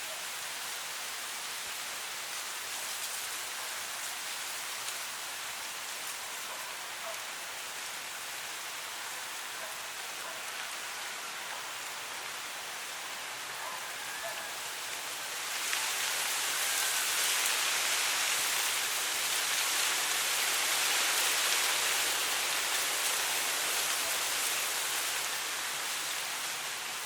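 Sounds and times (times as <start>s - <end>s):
wind rustling through dry grass: 0.0s - 27.0s.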